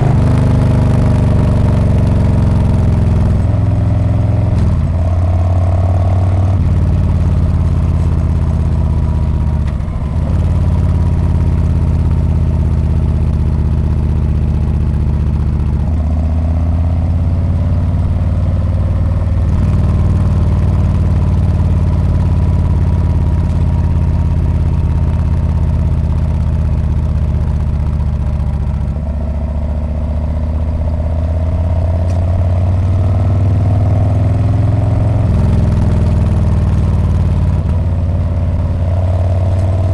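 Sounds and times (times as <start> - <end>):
motorcycle engine and exhaust running: 0.0 - 39.9.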